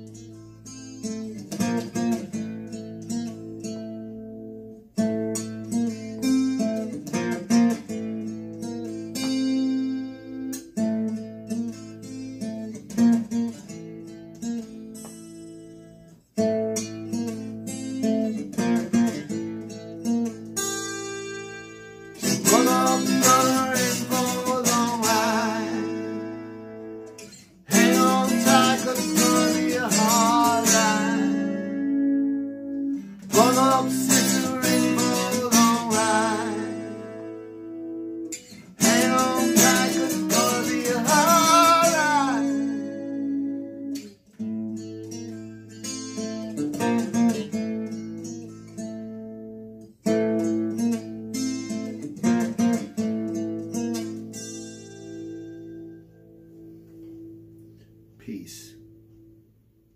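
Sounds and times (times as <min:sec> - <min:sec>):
acoustic guitar playing: 0:00.0 - 0:59.9.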